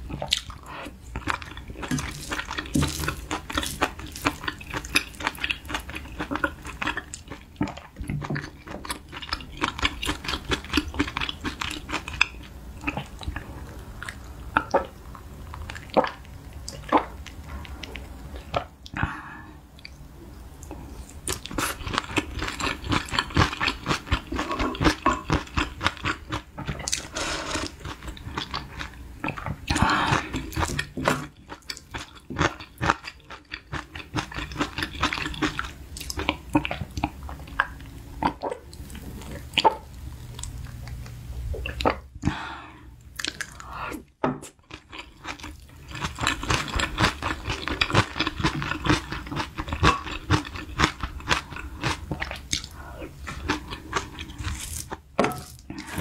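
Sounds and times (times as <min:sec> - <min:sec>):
wet chewing and crunching: 0:00.0 - 0:19.0, 0:20.7 - 0:42.1, 0:44.5 - 0:56.0.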